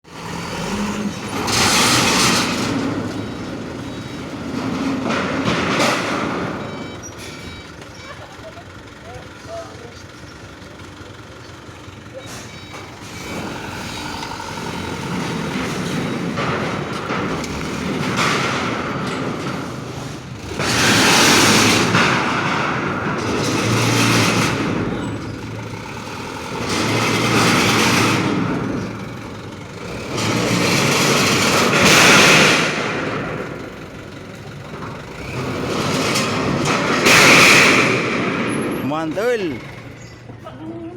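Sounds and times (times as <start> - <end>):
heavy truck engine running: 0.0 - 40.9.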